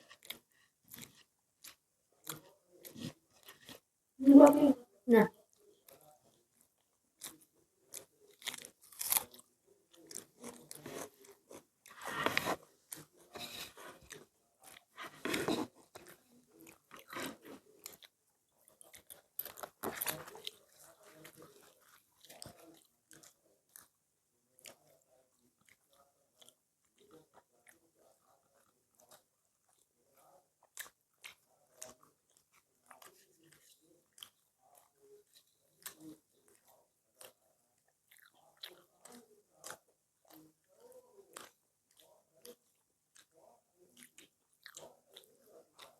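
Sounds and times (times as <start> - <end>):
food crunching: 0.0 - 3.8, 5.5 - 24.0, 24.6 - 45.9
people chewing food: 0.0 - 45.9.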